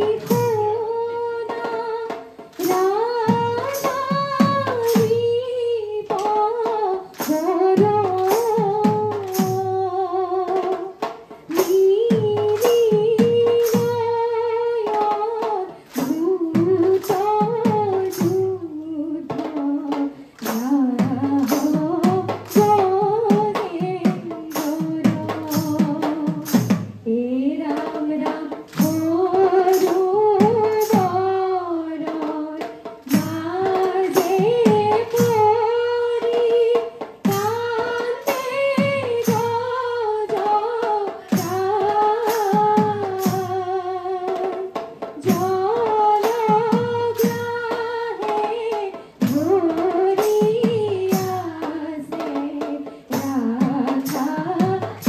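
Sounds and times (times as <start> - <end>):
rhythmic hand-clapping: 0.0 - 55.0
women singing a devotional chant: 0.0 - 55.0.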